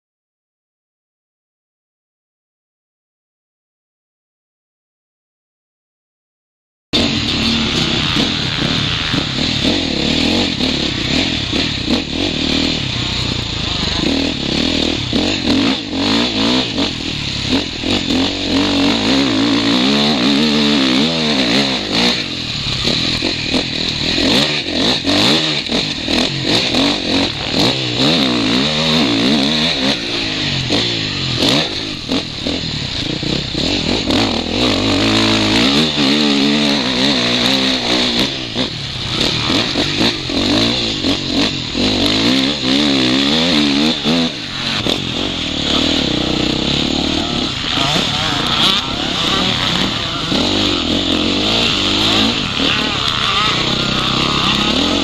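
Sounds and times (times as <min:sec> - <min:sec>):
motocross bike engine revving: 0:07.0 - 0:55.0
steady rushing noise: 0:07.0 - 0:55.0.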